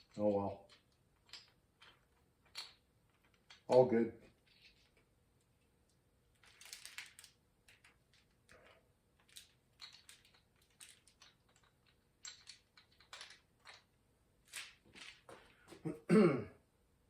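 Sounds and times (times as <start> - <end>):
small metal parts clicking: 0.0 - 15.5.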